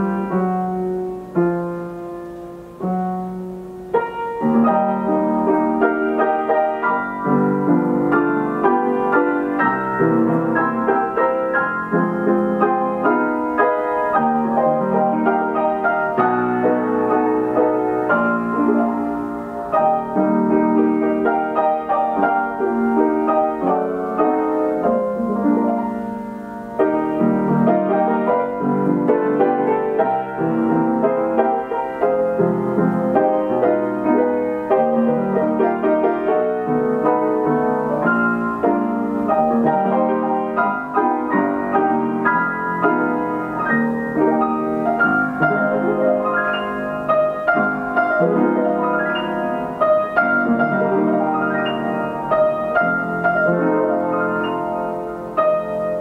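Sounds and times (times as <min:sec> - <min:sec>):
player piano playing chords: 0:00.0 - 0:56.0.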